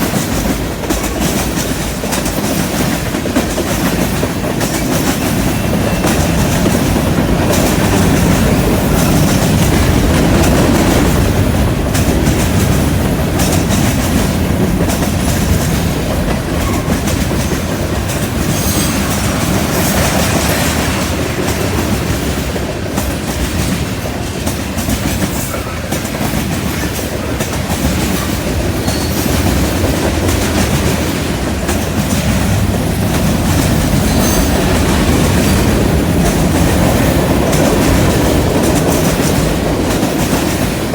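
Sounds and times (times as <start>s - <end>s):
train wheels clacking over rails: 0.0s - 40.9s.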